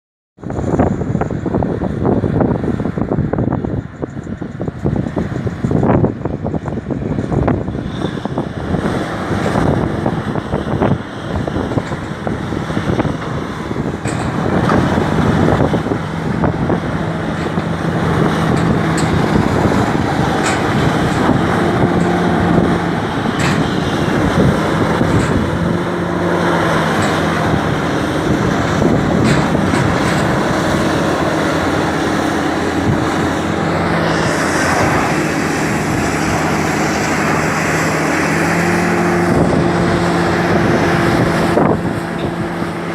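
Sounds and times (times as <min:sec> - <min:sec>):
excavator diesel engine revving: 0:00.6 - 0:42.9.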